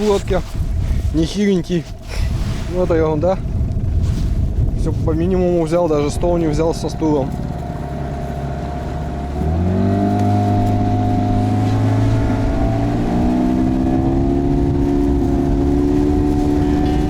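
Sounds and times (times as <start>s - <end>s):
outboard motor revving: 1.9s - 17.0s.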